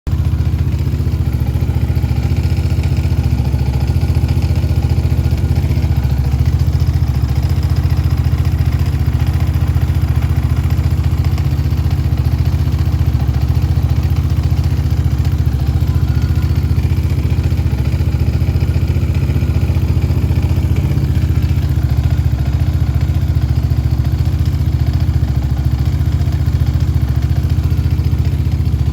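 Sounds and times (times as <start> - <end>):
atv engine running: 0.1 - 28.9.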